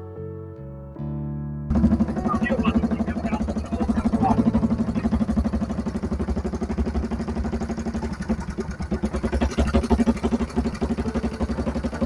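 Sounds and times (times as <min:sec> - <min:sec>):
motorcycle engine idling: 0:01.7 - 0:12.0.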